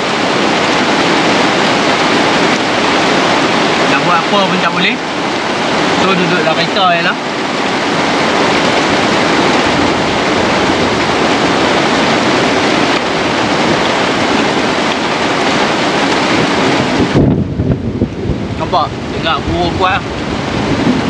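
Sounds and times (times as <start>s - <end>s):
heavy rain on a car roof: 0.0s - 21.0s.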